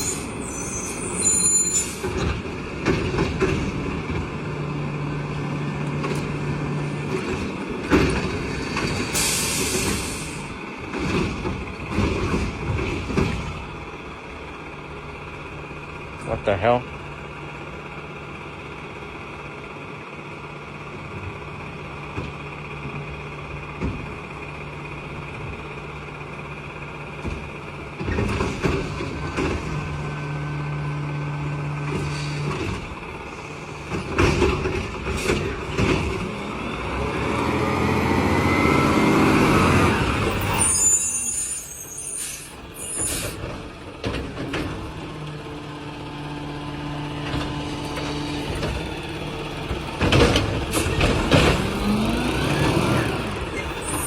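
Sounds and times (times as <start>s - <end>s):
garbage truck engine running: 0.0s - 54.0s.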